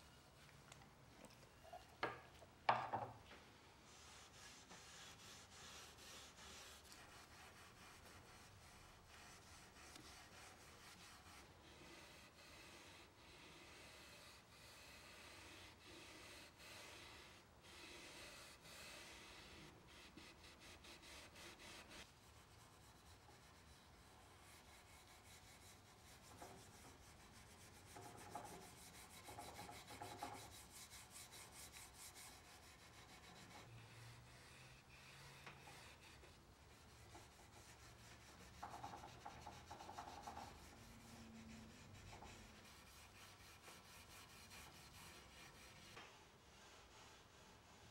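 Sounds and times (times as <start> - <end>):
steel wool scrubbing wood: 3.9 - 46.0.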